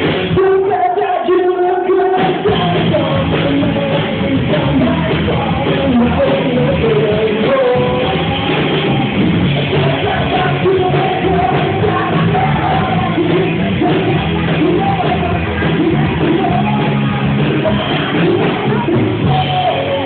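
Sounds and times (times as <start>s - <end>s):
live band playing loudly: 0.0s - 20.0s
person singing: 0.3s - 20.0s.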